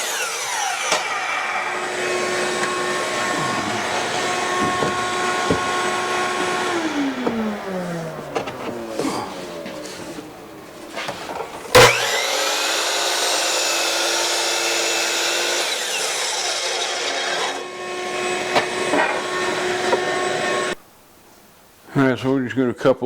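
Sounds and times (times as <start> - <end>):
power saw cutting wood: 0.0 - 20.8.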